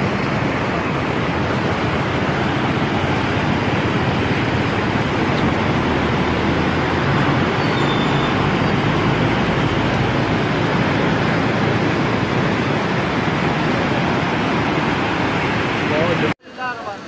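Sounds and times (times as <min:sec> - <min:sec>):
floodwater rushing under bridge: 0:00.0 - 0:17.0.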